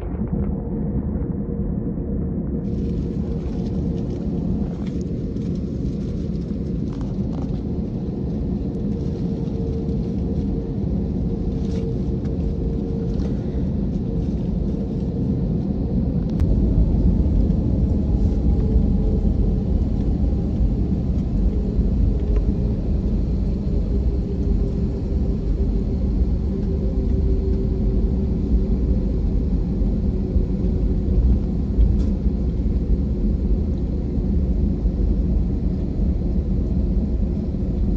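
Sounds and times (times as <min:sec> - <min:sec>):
airliner cabin rumble: 0:00.0 - 0:37.9
faint hum: 0:00.0 - 0:37.9.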